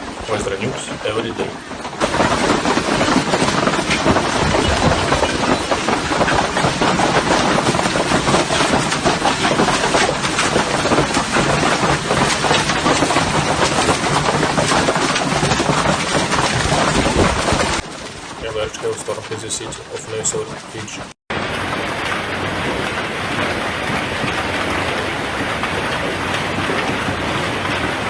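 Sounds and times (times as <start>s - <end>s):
hailstones clattering: 0.0s - 28.0s.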